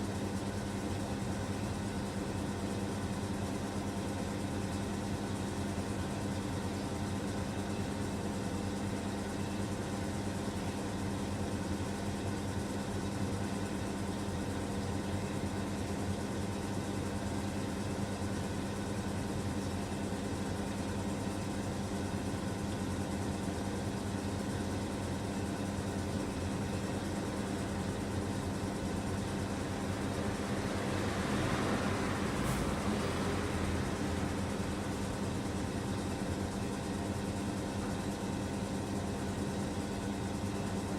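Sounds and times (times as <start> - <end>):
washing machine motor humming: 0.1 - 40.9.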